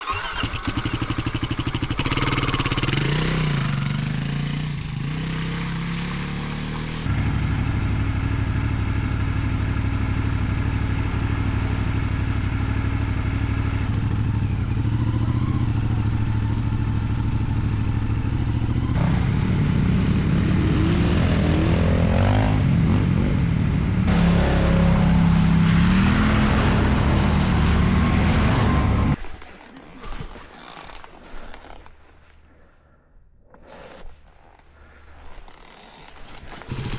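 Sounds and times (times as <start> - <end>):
motorcycle engine revving: 0.0 - 29.2, 35.6 - 36.9.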